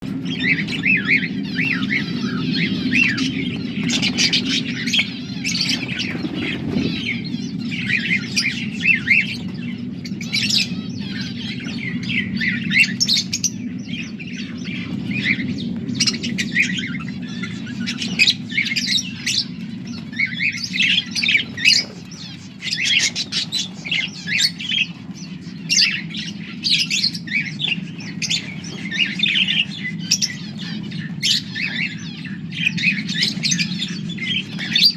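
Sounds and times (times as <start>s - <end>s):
budgerigars chirping: 0.1s - 34.9s.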